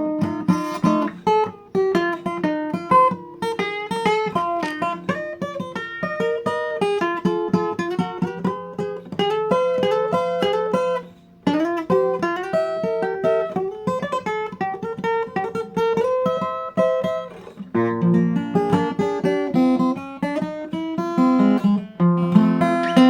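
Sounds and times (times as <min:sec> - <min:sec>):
acoustic blues guitar: 0:00.0 - 0:23.0.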